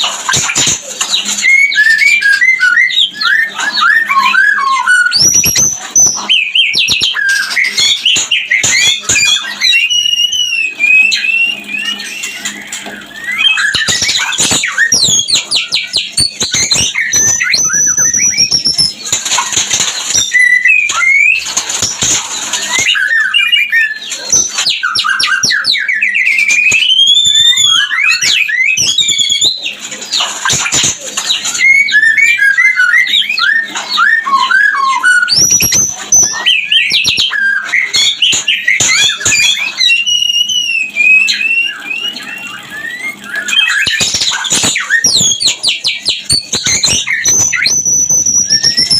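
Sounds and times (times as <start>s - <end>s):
bird singing whistles and trills: 0.0s - 22.0s, 22.6s - 48.9s.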